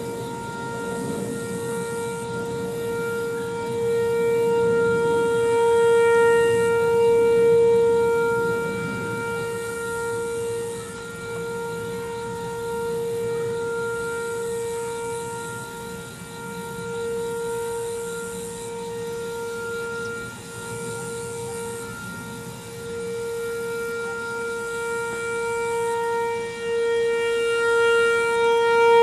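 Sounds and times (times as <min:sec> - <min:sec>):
outdoor warning siren steady tone: 0:00.0 - 0:29.0.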